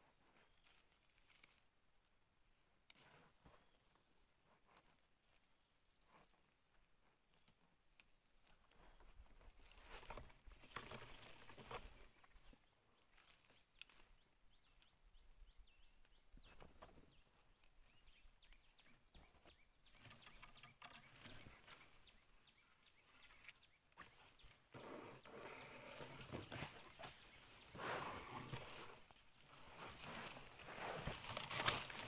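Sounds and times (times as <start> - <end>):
rustling of leaves and twigs: 0.2 - 1.8, 2.9 - 15.2, 15.8 - 32.0.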